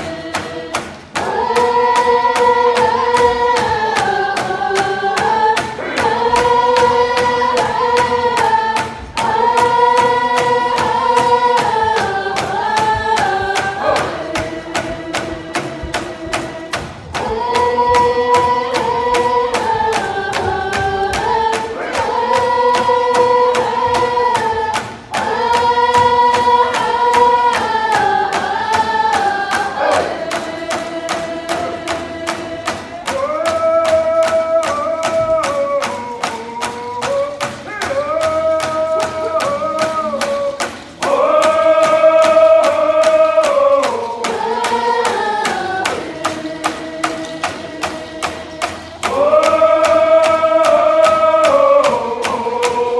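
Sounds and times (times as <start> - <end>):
frame drums beating: 0.0 - 52.9
group chanting in unison: 0.0 - 52.9.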